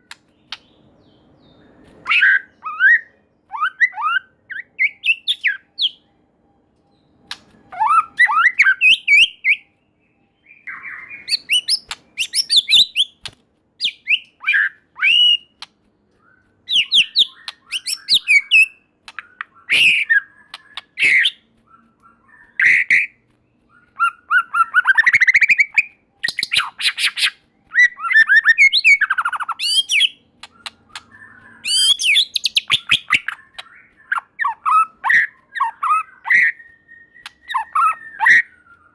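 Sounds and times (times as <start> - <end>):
bird singing whistles and chatter: 1.5 - 6.1, 7.1 - 13.2, 13.8 - 38.9.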